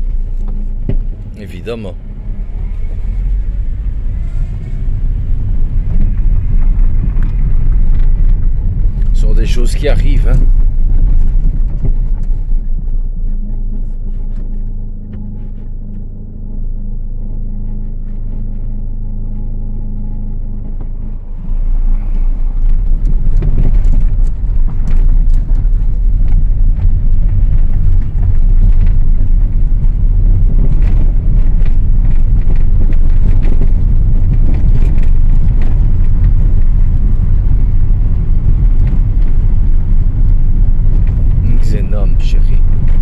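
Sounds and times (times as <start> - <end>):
wind buffeting through car window: 0.0 - 14.5, 20.8 - 43.0
car engine hum: 0.0 - 43.0
road noise: 0.0 - 43.0.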